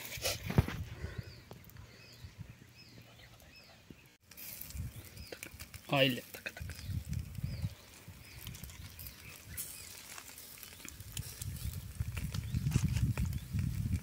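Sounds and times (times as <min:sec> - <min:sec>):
charcoal fire crackling: 0:00.0 - 0:03.3, 0:04.2 - 0:14.0
wind buffeting microphone: 0:00.3 - 0:03.0, 0:03.8 - 0:14.0.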